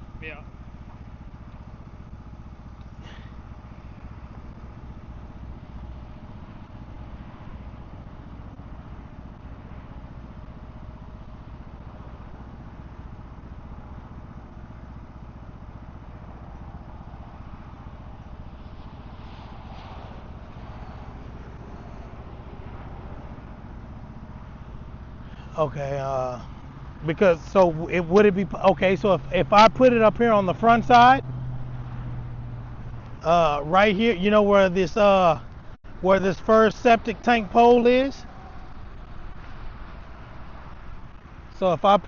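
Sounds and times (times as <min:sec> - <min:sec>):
vehicle engine idling: 0:00.0 - 0:42.0.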